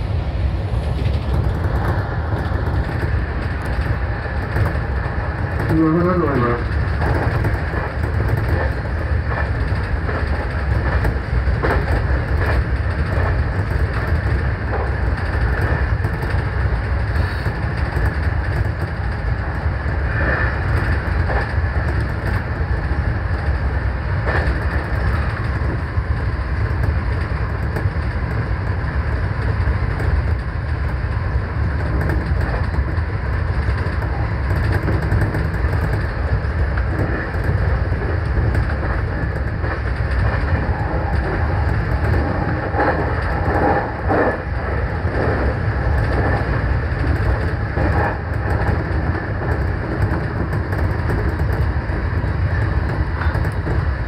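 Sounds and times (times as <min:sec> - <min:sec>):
rail joint clicks: 0:00.0 - 0:54.0
train wheels rumbling on rail: 0:00.0 - 0:54.0.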